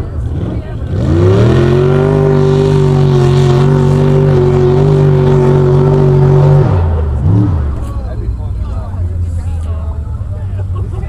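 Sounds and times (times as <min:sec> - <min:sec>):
truck engine revving: 0:00.0 - 0:09.7.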